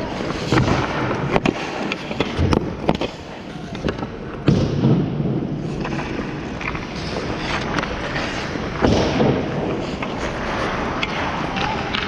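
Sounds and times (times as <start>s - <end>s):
ice skate blades scraping: 0.0s - 3.9s, 5.6s - 12.0s.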